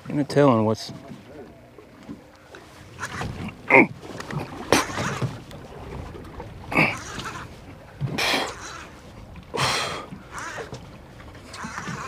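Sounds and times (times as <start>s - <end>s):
water noise: 0.0s - 12.0s
wind: 0.0s - 12.0s.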